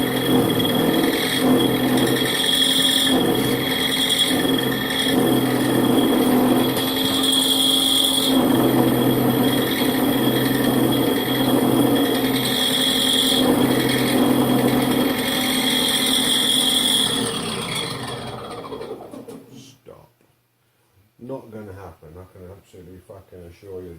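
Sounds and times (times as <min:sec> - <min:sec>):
lathe cutting steel with whine: 0:00.0 - 0:19.4.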